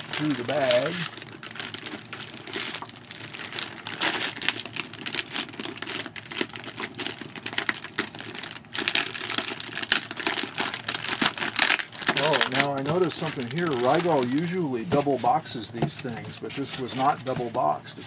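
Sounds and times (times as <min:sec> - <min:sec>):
plastic bag crinkling: 0:00.0 - 0:17.8.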